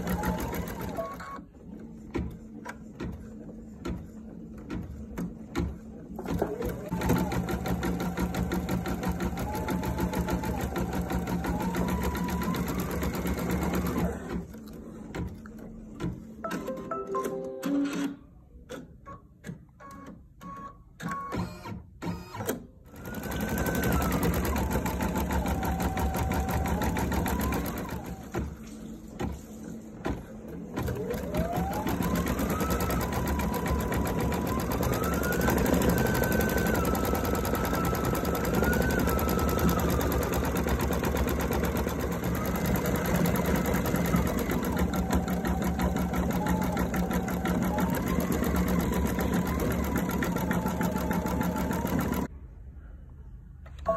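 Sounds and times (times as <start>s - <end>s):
sewing machine stitching: 0.0s - 52.3s.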